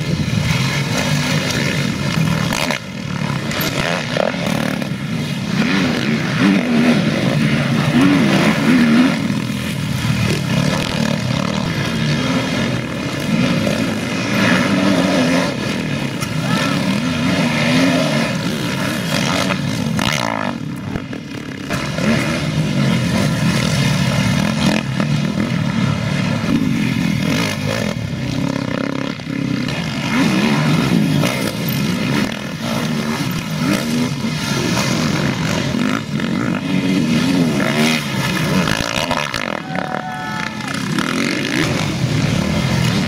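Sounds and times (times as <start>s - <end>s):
motocross motorcycles revving: 0.0s - 43.0s.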